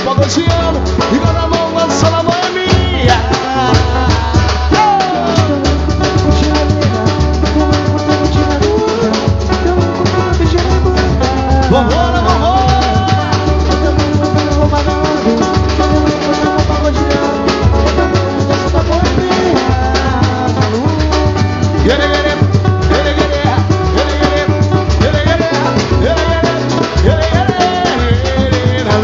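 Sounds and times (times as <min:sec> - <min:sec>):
hand percussion and drums: 0:00.0 - 0:29.0
pulsing bass beat: 0:00.0 - 0:29.0.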